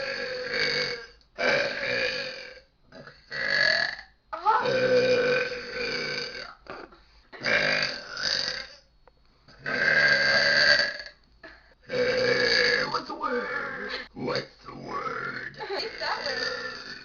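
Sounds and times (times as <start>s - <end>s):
women belching: 0.0s - 8.8s, 9.6s - 17.0s.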